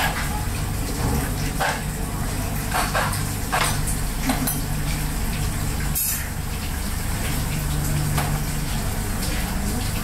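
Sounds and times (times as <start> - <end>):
low machine hum: 0.0 - 10.0
water running from tap: 0.0 - 10.0.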